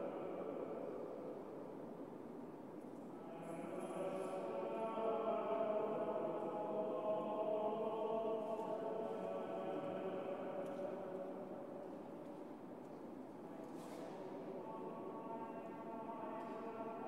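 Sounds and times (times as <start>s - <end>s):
choir singing a slow chant: 0.0s - 17.0s.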